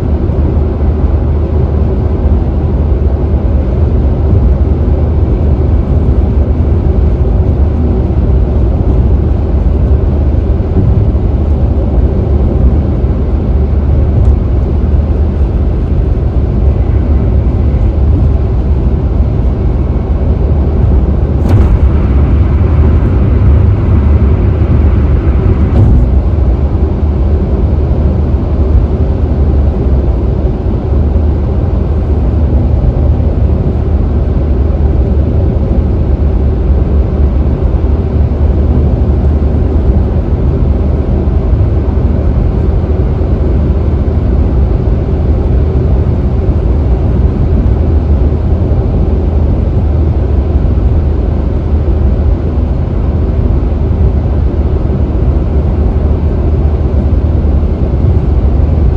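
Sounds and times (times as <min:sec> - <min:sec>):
tyre and road noise: 0:00.0 - 0:58.9.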